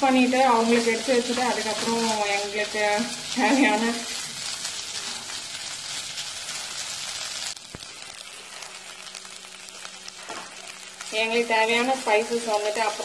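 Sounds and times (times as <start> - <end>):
squid sizzling in a pan: 0.0 - 13.0.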